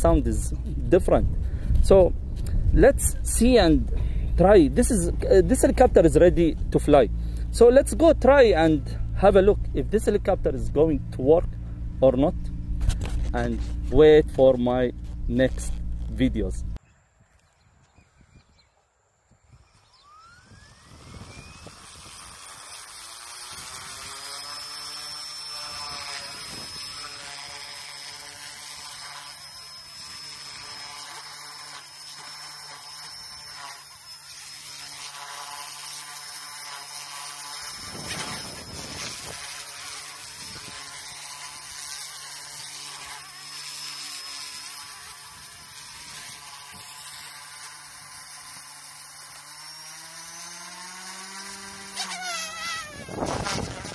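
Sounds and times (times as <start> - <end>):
rc helicopter rotor whine: 0.0 - 16.8, 17.4 - 53.9.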